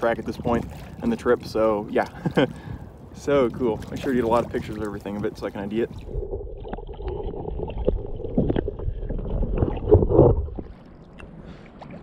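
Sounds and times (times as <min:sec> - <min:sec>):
underwater sloshing and gurgling: 0:00.0 - 0:12.0.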